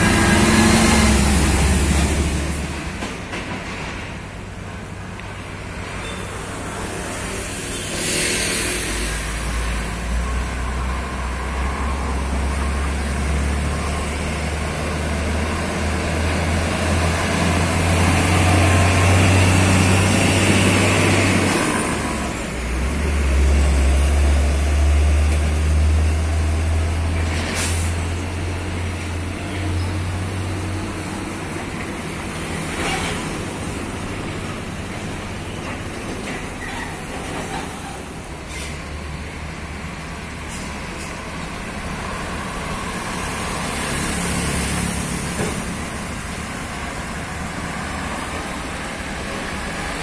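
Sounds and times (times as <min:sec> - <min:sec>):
diesel truck engines passing: 0:00.0 - 0:50.0.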